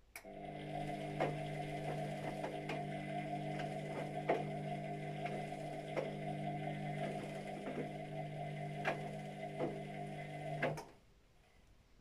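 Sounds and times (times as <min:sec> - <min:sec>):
washing machine motor humming: 0:00.1 - 0:10.9.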